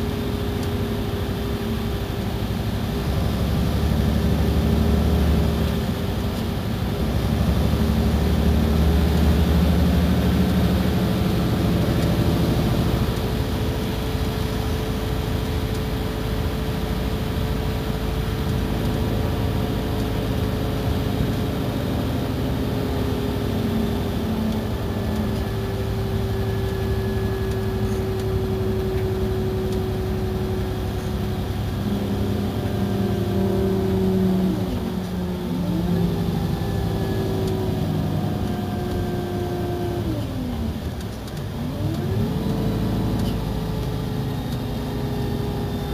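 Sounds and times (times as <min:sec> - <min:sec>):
bus diesel engine whining: 0:00.0 - 0:45.9.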